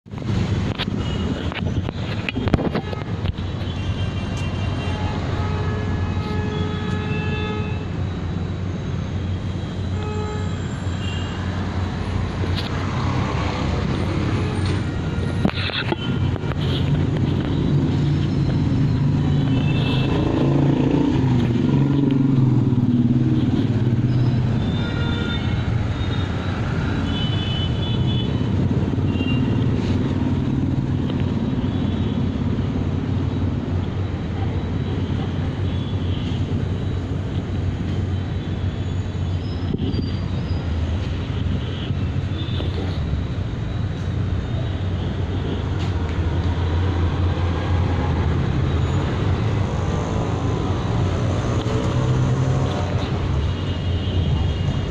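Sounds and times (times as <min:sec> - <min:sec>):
traffic engines rumbling: 0:00.0 - 0:54.9.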